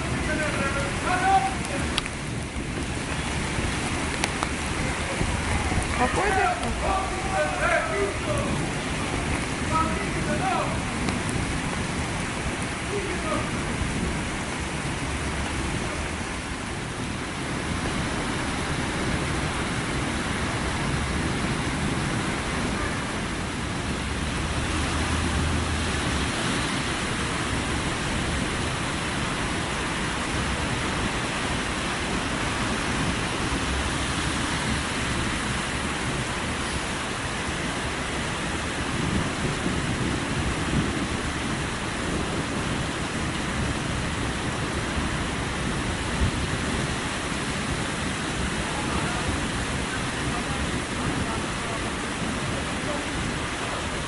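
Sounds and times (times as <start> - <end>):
floodwater rushing: 0.0 - 54.0
heavy rain pouring: 0.0 - 54.0.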